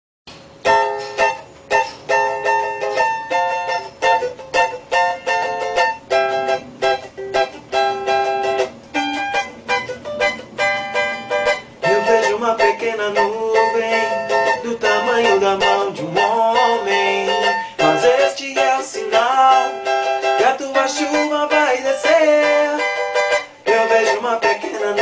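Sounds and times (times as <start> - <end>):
acoustic string chords strummed: 0.3 - 25.0.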